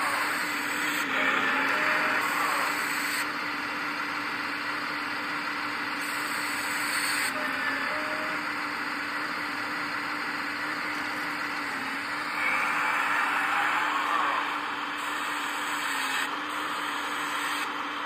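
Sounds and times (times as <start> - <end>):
toy excavator hydraulic pump: 0.0 - 18.0.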